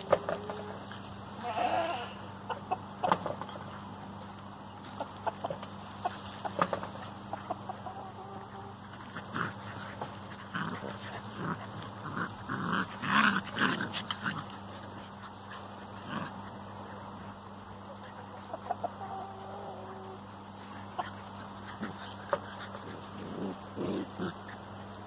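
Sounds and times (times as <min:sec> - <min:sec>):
puppies yipping and growling: 0:00.0 - 0:25.0.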